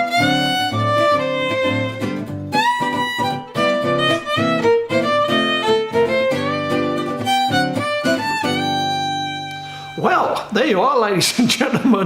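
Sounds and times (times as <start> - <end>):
fiddle playing lively tune: 0.0 - 10.2
guitar accompaniment: 0.0 - 10.6.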